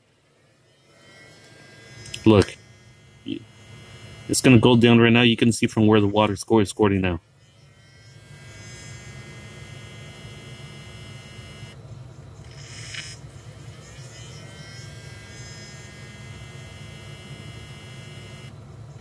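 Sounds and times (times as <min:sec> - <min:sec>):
electric pump humming and whining: 0:00.0 - 0:06.3, 0:07.0 - 0:19.0.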